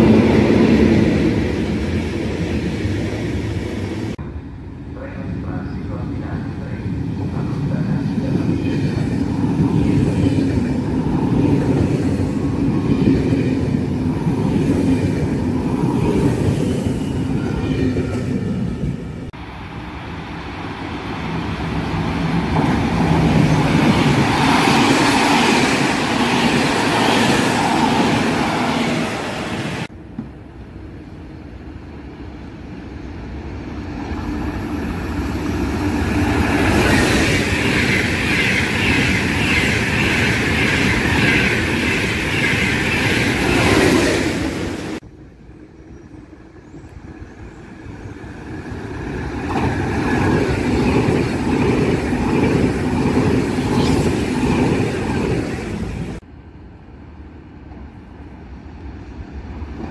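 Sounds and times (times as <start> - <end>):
freight train rumble and hiss: 0.0 - 59.9
high-speed train approaching: 0.0 - 59.9
passenger train rumbling past: 0.0 - 59.9.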